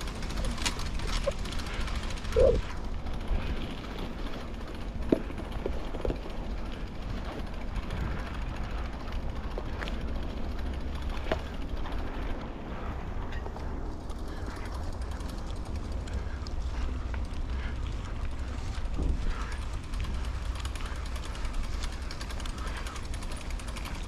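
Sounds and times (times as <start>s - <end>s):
bicycle clicks and rattles: 0.0s - 24.0s
tyres rolling on path: 0.0s - 24.0s.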